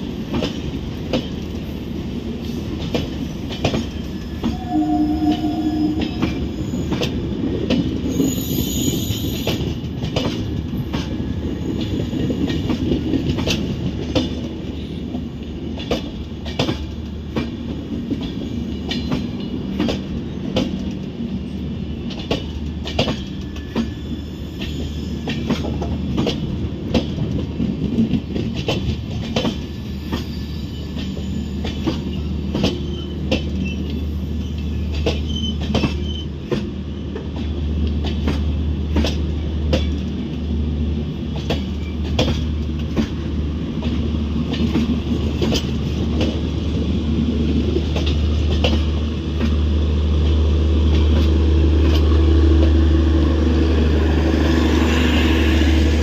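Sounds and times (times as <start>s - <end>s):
train wheels clicking over rail joints: 0.0s - 1.8s, 2.4s - 4.6s, 6.0s - 8.4s, 9.2s - 21.3s, 21.9s - 52.8s
train coaches rumbling past: 0.0s - 56.0s.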